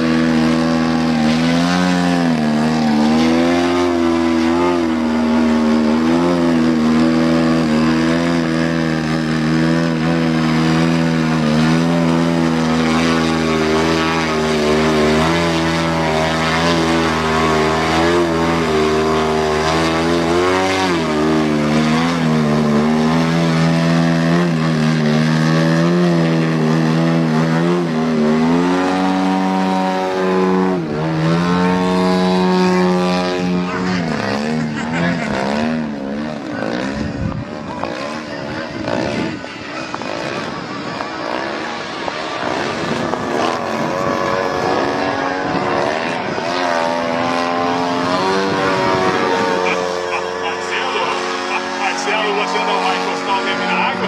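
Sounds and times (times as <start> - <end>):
model plane motor and propeller: 0.0 - 54.0.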